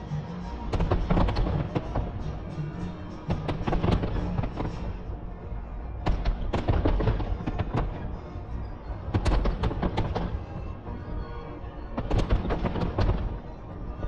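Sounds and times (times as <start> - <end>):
fireworks bangs and crackles: 0.6 - 5.1, 5.9 - 11.0, 11.9 - 14.0.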